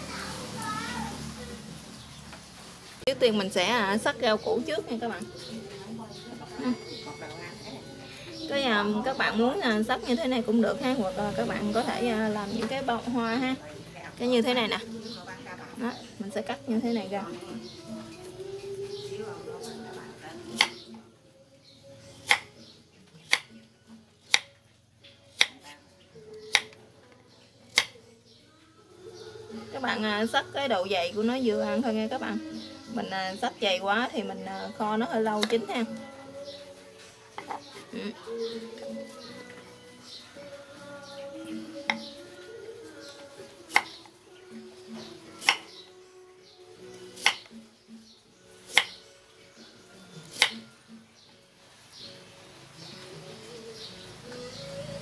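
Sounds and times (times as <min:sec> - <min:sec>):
soft background music: 0:00.0 - 0:55.0.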